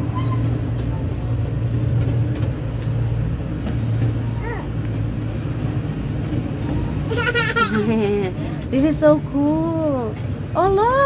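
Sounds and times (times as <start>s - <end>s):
miniature train rolling hum: 0.0s - 11.0s.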